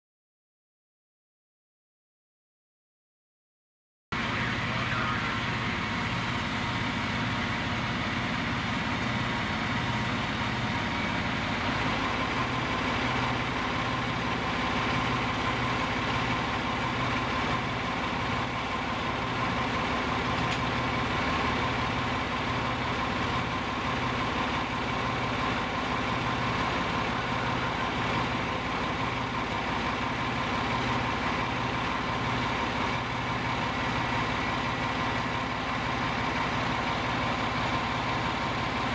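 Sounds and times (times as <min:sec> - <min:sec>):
fire engine idling: 0:04.1 - 0:38.9.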